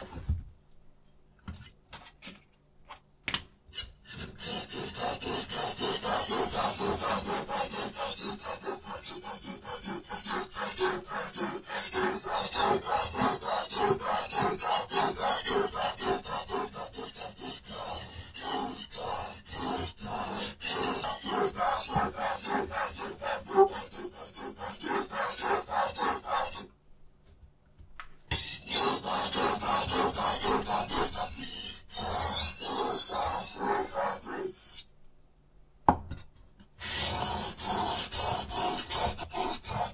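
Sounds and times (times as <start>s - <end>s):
knife grinding on sharpening stone: 3.7s - 26.7s, 28.3s - 34.9s, 36.8s - 39.9s.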